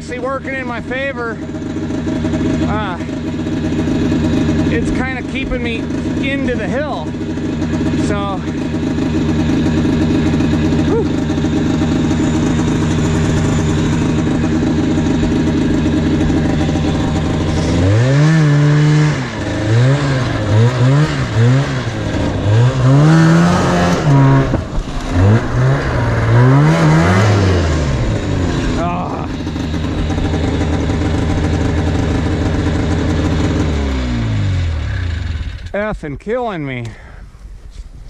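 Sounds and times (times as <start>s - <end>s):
snowmobile engine revving: 0.0s - 37.0s.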